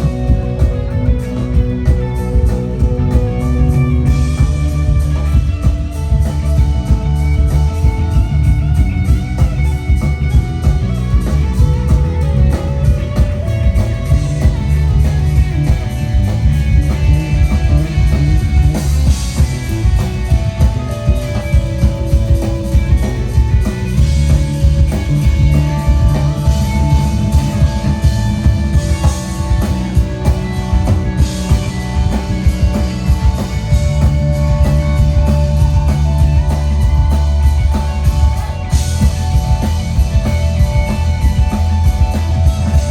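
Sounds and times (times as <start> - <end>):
bass guitar: 0.0 - 42.9
drum kit steady beat: 0.0 - 42.9
guitar lines: 0.0 - 42.9.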